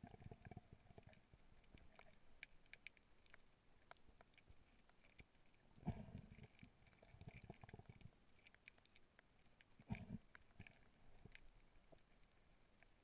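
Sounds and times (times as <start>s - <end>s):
underwater clicks and crackle: 0.0s - 13.0s.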